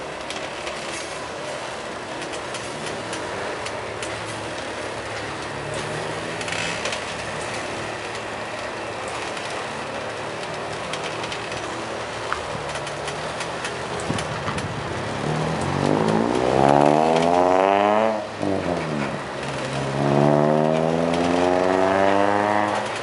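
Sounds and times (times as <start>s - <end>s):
freight train rumbling past: 0.0s - 23.0s
train wheel clicks: 0.0s - 23.0s
vehicle engine revving: 2.3s - 23.0s.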